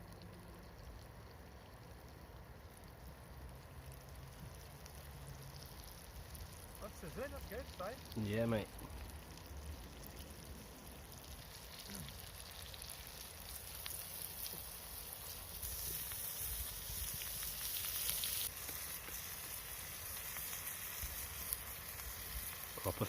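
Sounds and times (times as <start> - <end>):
food sizzling over campfire: 0.0 - 23.0
small crackles: 0.0 - 23.0.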